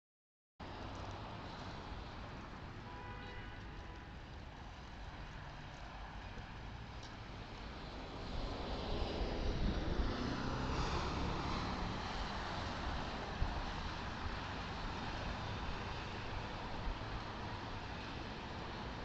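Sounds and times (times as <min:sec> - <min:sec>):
vehicle road rumble: 0:00.6 - 0:19.0.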